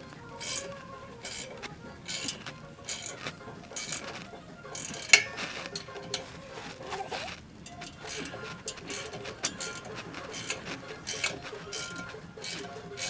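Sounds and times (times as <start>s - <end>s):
metal clinks: 0.0s - 13.0s
socket ratchet ratcheting: 0.0s - 13.0s.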